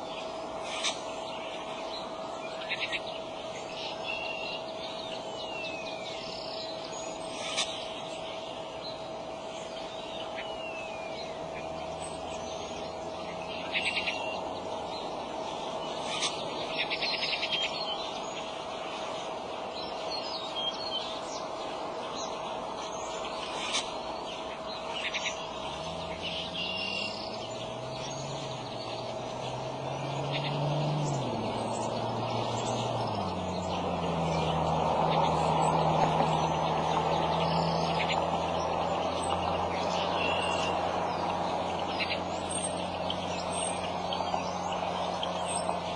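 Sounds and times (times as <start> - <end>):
birds chirping and trilling: 0.0 - 45.9
faint constant hum: 0.0 - 45.9
vehicle engine drone: 0.0 - 45.9.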